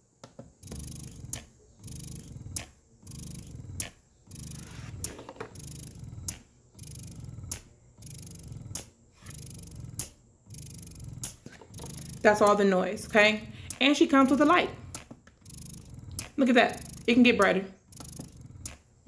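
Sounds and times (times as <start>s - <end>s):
pump stroke clicks: 0.2s - 18.8s
breast pump motor humming: 0.5s - 19.0s.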